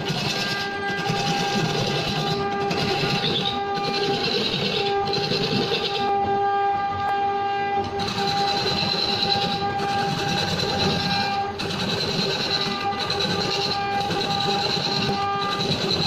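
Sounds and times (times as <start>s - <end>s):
chisel scraping wood: 0.0s - 6.4s, 7.8s - 16.0s
lathe motor whine: 0.0s - 16.0s.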